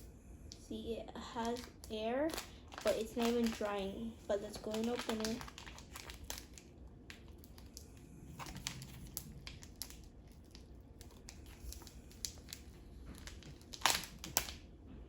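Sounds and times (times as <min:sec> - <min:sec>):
plastic package crinkling: 0:01.4 - 0:14.6.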